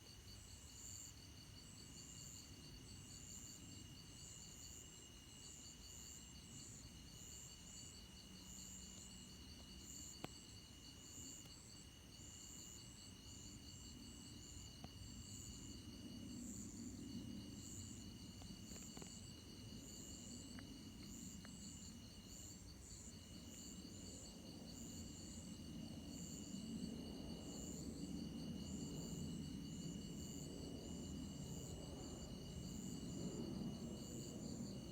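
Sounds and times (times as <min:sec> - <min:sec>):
insects chirping: 0:00.0 - 0:34.9.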